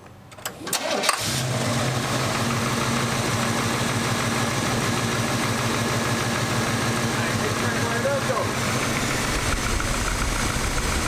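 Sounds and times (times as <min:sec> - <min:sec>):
car engine starting and idling: 0:00.3 - 0:11.0.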